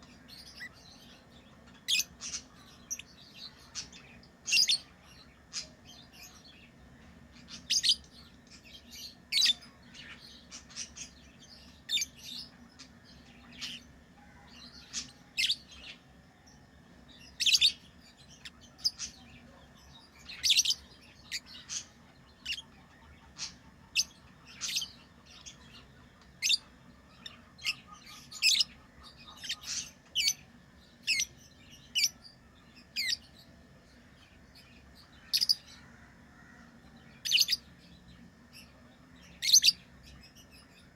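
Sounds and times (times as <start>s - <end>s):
lovebirds chirping: 0.0s - 40.9s.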